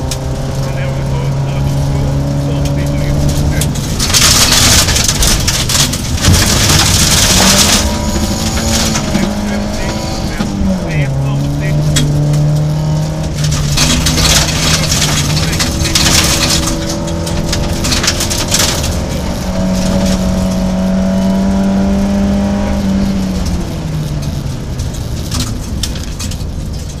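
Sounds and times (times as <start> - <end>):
rally car engine running hard: 0.0 - 27.0.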